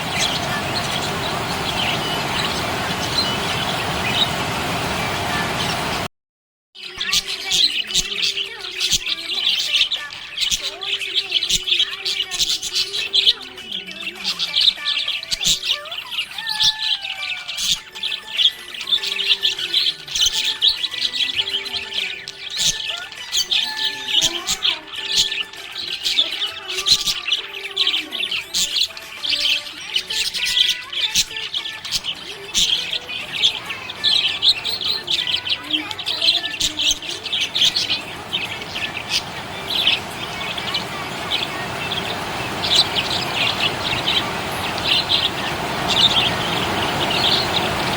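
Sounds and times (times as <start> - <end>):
budgerigars chirping: 0.0 - 6.0, 7.0 - 47.9.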